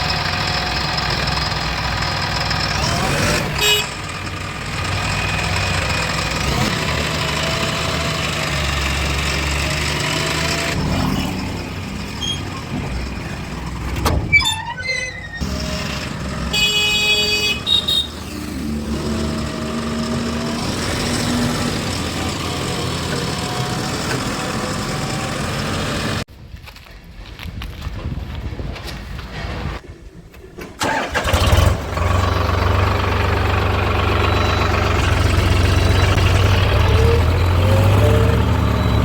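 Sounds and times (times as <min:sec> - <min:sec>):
backhoe loader engine: 0:00.0 - 0:26.3, 0:30.8 - 0:39.0
diesel tractor engines running: 0:00.0 - 0:26.3, 0:30.7 - 0:39.0.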